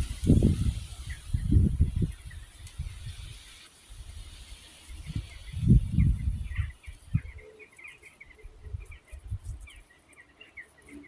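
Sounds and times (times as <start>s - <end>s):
wind buffeting microphone: 0.0s - 7.5s, 8.3s - 9.8s
small birds twittering: 0.0s - 11.0s.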